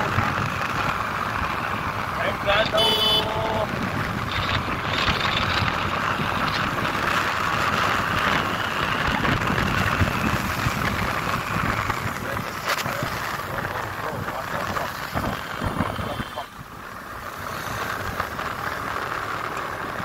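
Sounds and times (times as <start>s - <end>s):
wind on microphone: 0.0s - 18.7s
motorcycle engine: 0.0s - 20.0s.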